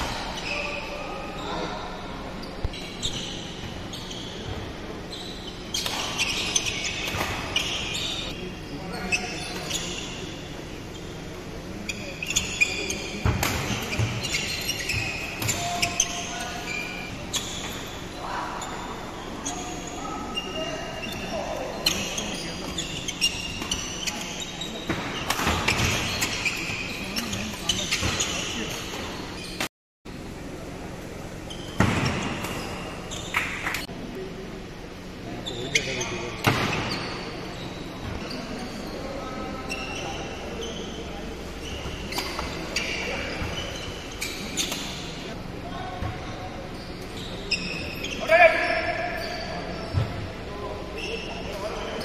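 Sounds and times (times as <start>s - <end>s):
shoes squeaking on court floor: 0.0s - 29.7s, 31.2s - 33.9s, 34.9s - 52.0s.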